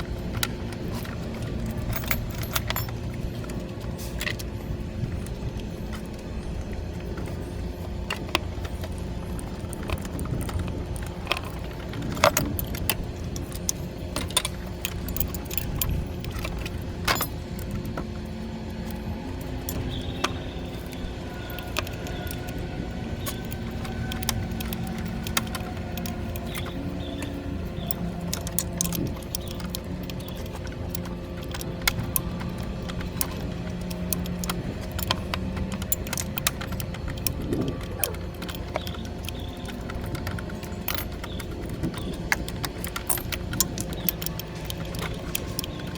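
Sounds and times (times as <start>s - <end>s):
metal tools clinking: 0.0s - 45.9s.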